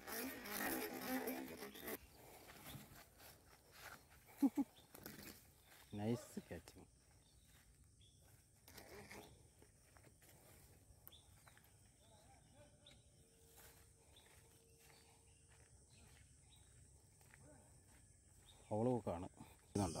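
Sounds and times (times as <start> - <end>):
faint distant bird calls: 1.0 - 19.8.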